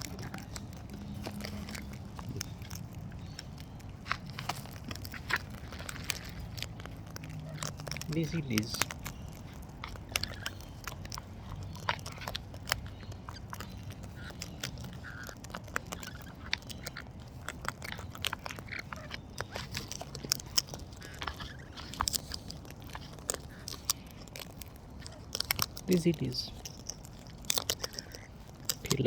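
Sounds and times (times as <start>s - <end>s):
cockatoo crunching with beak: 0.0s - 29.0s.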